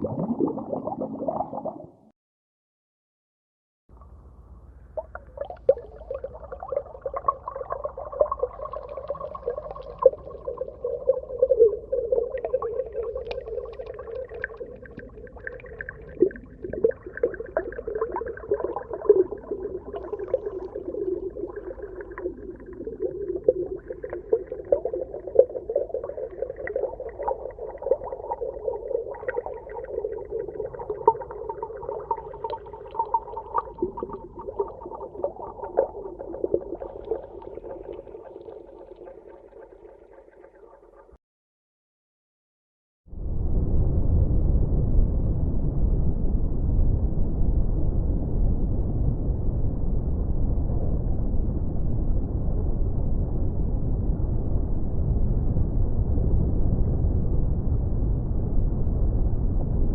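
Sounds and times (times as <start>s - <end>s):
muffled underwater wash: 0.0s - 2.1s, 4.0s - 41.2s, 43.1s - 59.9s.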